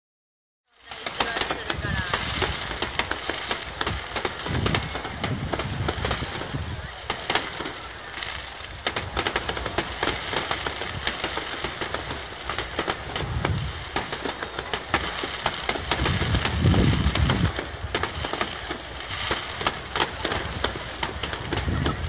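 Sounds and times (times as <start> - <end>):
distant fireworks bangs and crackles: 0.7 - 22.0
crowd voices: 0.8 - 22.0
deep fireworks booms: 0.8 - 22.0.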